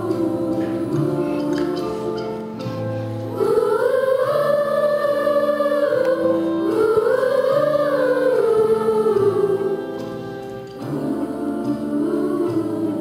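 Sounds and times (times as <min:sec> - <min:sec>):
held accompaniment notes: 0:00.0 - 0:13.0
person singing: 0:00.0 - 0:13.0.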